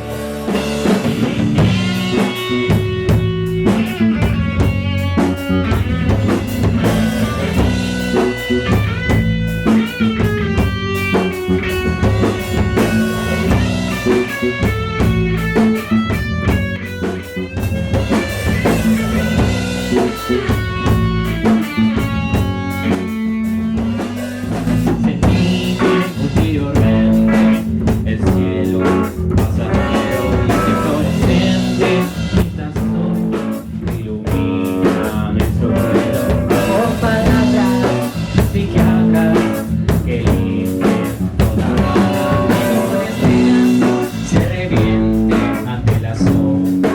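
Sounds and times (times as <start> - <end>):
guitar melody with bent notes: 0.0 - 46.9
rock band playing: 0.0 - 46.9.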